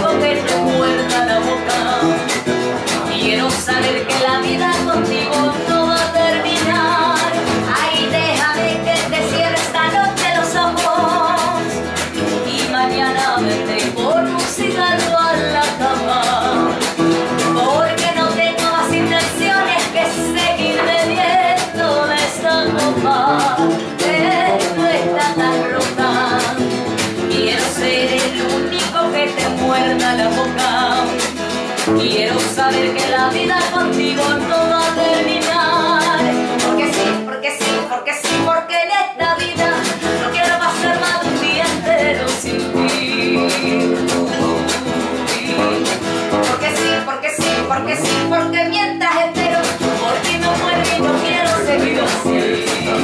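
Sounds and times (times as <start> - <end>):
acoustic bass guitar: 0.0 - 53.0
acoustic guitar: 0.0 - 53.0
woman singing with vibrato: 0.0 - 53.0.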